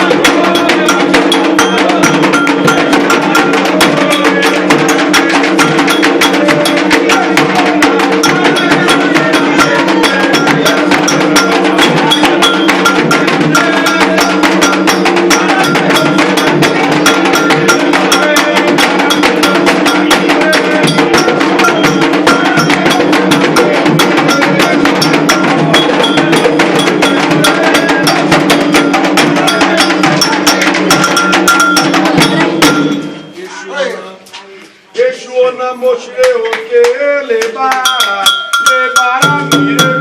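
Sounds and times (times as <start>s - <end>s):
hand drums playing fast: 0.0s - 33.4s, 37.5s - 40.0s
struck bell-like percussion: 0.0s - 33.5s, 37.7s - 40.0s.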